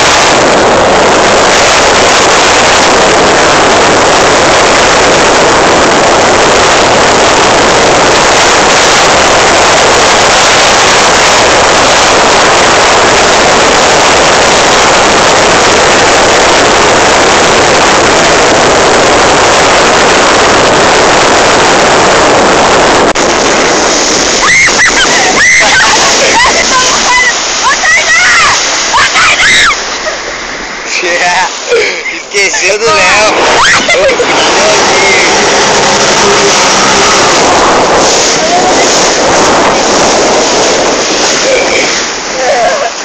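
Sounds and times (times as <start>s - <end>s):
wind and water rushing: 0.0s - 43.0s.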